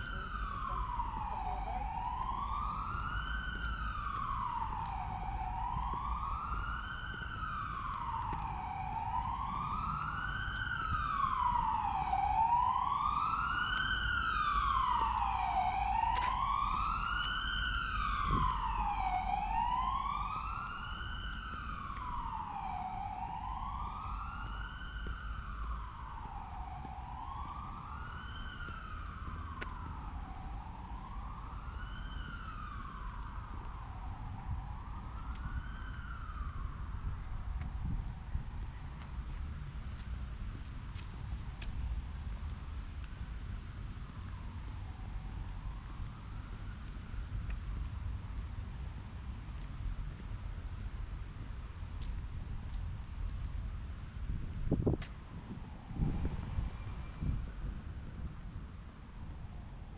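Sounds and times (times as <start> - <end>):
emergency siren wailing: 0.0 - 40.1, 42.2 - 52.0, 54.0 - 59.9.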